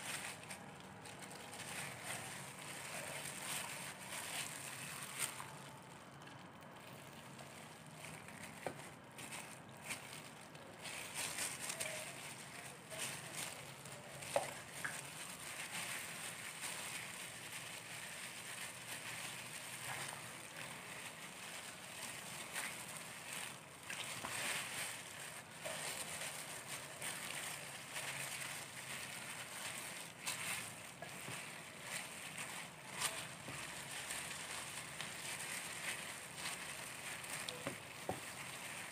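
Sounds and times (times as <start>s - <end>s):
plastic gloves crinkling: 0.0s - 38.9s
wet squelching of chicken skin: 0.0s - 38.9s.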